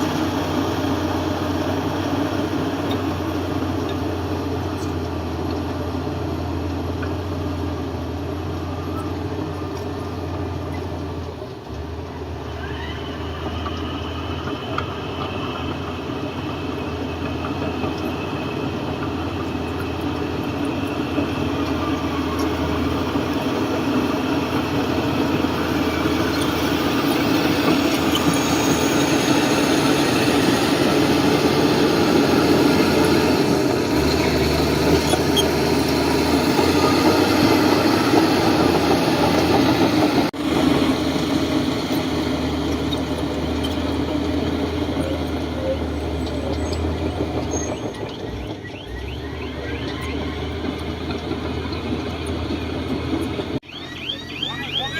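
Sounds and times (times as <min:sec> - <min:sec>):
heavy diesel machinery engine hum: 0:00.0 - 0:54.9.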